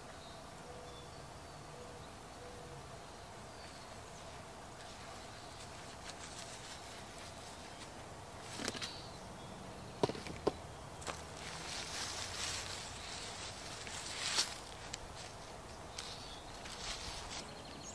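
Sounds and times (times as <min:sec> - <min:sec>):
faint birdsong: 0:00.0 - 0:17.9
steady hiss: 0:00.0 - 0:17.9.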